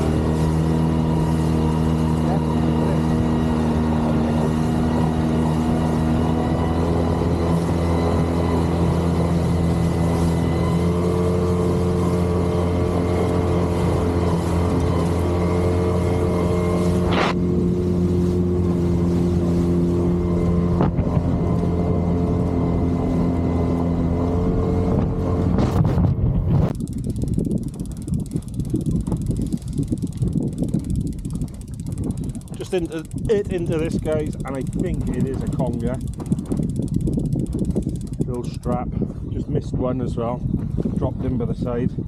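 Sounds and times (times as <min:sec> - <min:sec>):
outboard motor running: 0:00.0 - 0:42.0.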